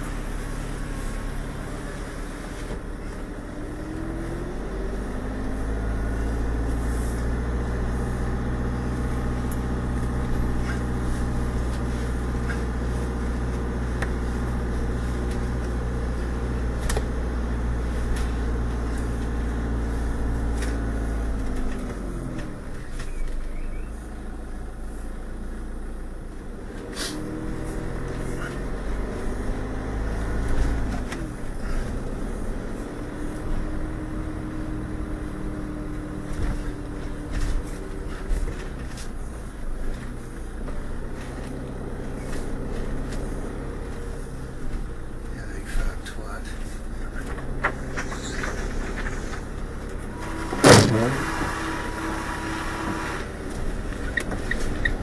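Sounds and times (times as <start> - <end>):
motorhome engine: 0.0 - 55.0
road noise: 0.0 - 55.0.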